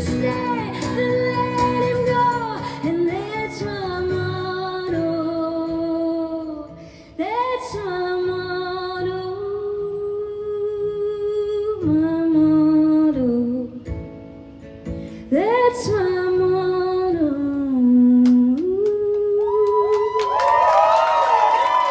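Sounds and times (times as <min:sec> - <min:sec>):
woman singing wordless notes: 0:00.0 - 0:14.0, 0:15.2 - 0:20.2
guitar: 0:00.0 - 0:21.9.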